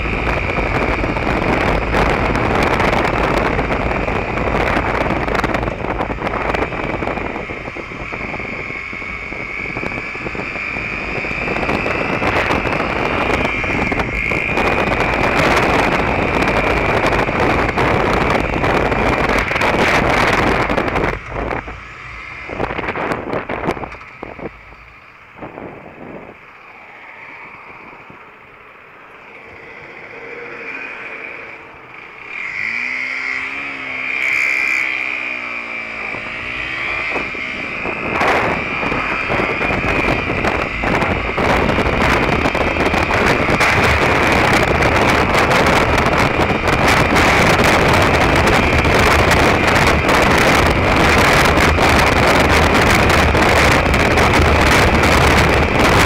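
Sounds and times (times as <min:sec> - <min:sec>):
motorcycle engine running: 0:00.0 - 0:26.8, 0:27.9 - 0:56.0
wind rushing over microphone: 0:00.0 - 0:56.0.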